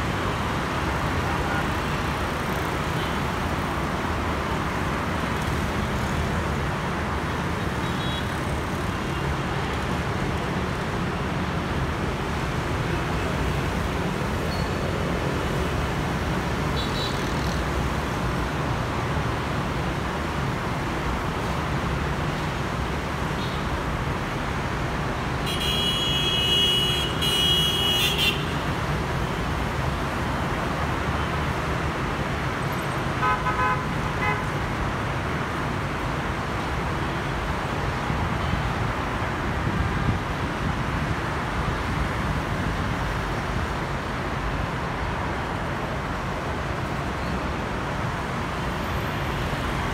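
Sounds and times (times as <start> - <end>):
city road traffic: 0.0 - 49.9.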